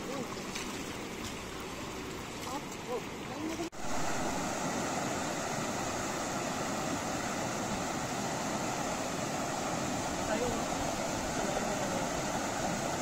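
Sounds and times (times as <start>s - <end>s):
river water rushing over boulders: 0.0s - 13.0s.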